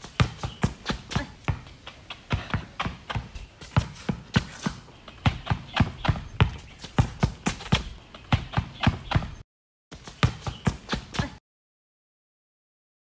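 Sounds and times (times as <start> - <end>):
basketball bouncing on concrete: 0.0 - 9.4, 10.0 - 11.4.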